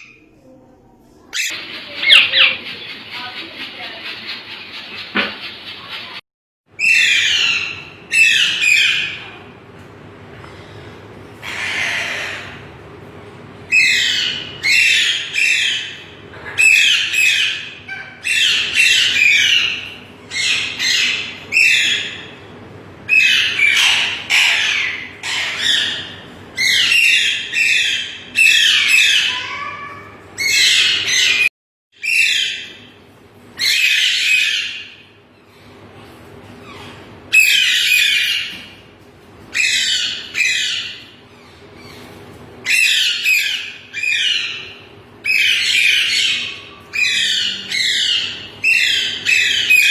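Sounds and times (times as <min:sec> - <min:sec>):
parakeets squawking: 0:01.4 - 0:06.2, 0:06.8 - 0:09.3, 0:11.4 - 0:12.7, 0:13.7 - 0:22.4, 0:23.1 - 0:32.9, 0:33.6 - 0:35.1, 0:36.6 - 0:38.8, 0:39.5 - 0:49.9.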